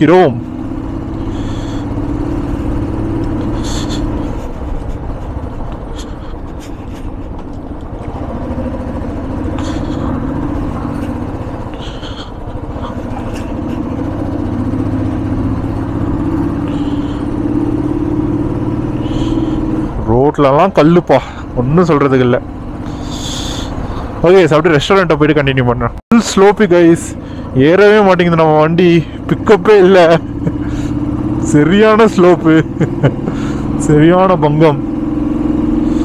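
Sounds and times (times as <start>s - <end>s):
motorcycle engine running: 0.0s - 24.8s, 26.3s - 36.0s.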